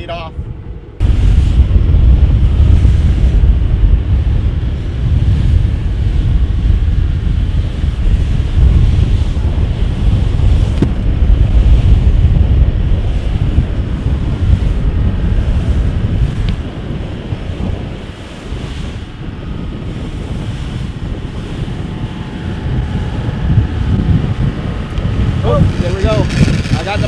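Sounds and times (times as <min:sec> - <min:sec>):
boat engine low rumble: 0:00.0 - 0:27.0
wind buffeting microphone: 0:00.0 - 0:27.0.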